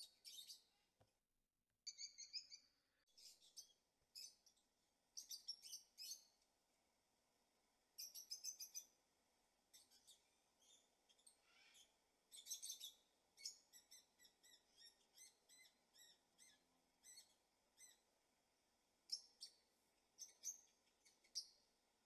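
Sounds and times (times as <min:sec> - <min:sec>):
faint birdsong chirps: 0:00.0 - 0:00.8, 0:01.8 - 0:06.5, 0:07.9 - 0:18.2, 0:19.0 - 0:21.9.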